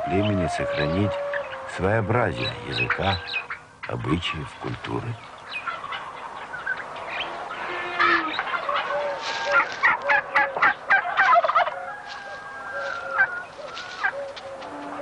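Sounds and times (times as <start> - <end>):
turkeys gobbling: 0.0 - 15.0.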